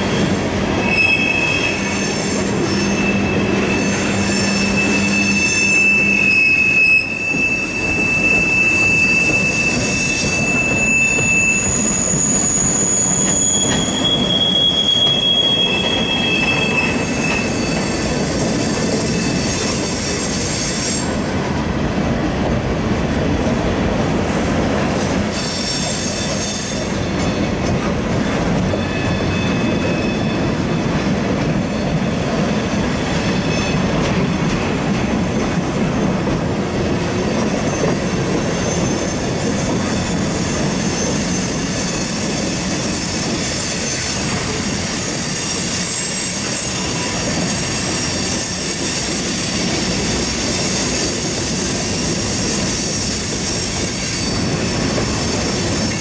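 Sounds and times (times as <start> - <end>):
high-pitched wheel squeal: 0.0 - 21.3, 25.3 - 27.4, 28.7 - 30.8, 33.0 - 33.9, 37.3 - 56.0
train wagons rumbling on rails: 0.0 - 56.0.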